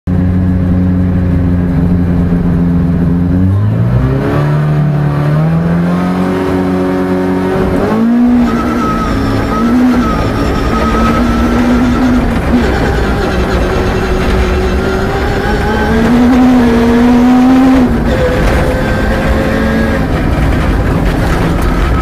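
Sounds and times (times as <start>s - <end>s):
car engine revving and accelerating: 0.2s - 22.0s.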